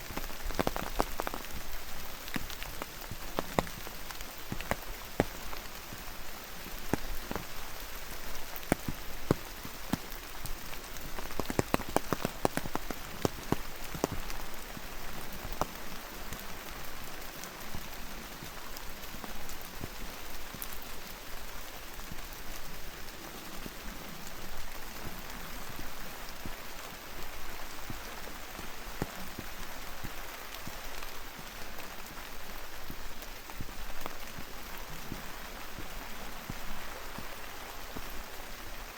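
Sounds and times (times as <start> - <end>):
close raindrop impacts: 0.0 - 38.9
steady rainfall: 0.0 - 38.9.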